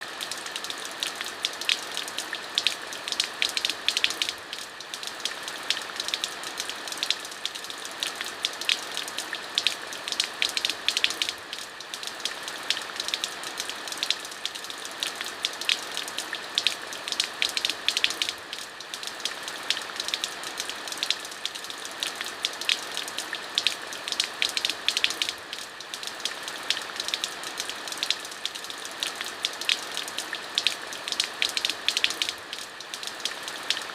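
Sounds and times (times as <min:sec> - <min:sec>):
rain pattering on hard surface: 0:00.0 - 0:33.9.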